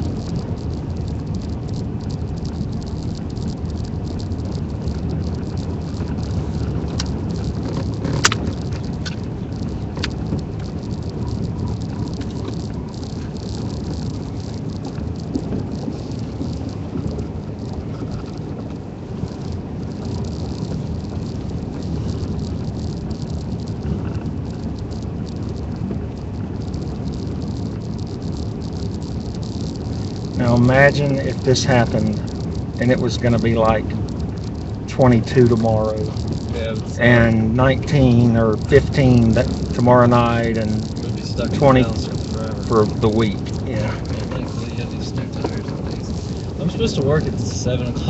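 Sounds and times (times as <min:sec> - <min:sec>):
engine and tyres rumbling: 0:00.0 - 0:48.0
faint ticks: 0:00.0 - 0:48.0
light rattling: 0:00.0 - 0:48.0.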